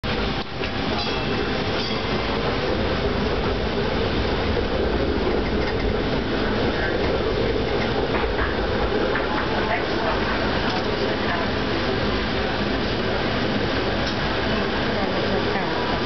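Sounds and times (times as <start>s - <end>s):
streetcar wheels rumbling on rail: 0.0s - 16.0s.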